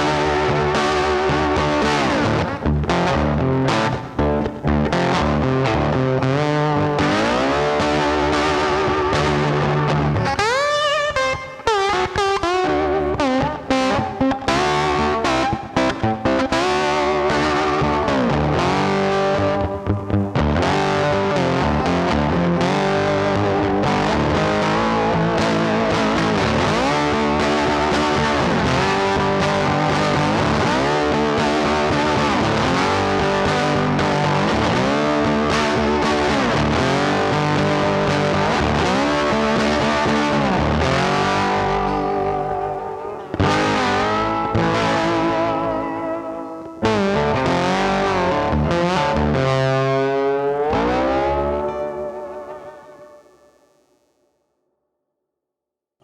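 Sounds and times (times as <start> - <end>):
distorted electric guitar music: 0.0 - 54.1.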